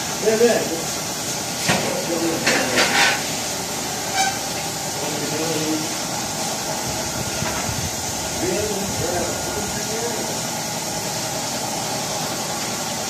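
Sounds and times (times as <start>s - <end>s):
workshop machinery hum and hiss: 0.0s - 13.0s.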